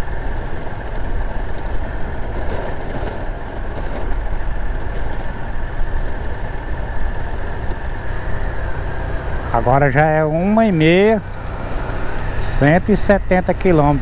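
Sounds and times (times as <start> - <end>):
motorcycle engine drone: 0.0 - 14.0
tyre noise on dirt road: 0.0 - 14.0
wind: 0.0 - 14.0.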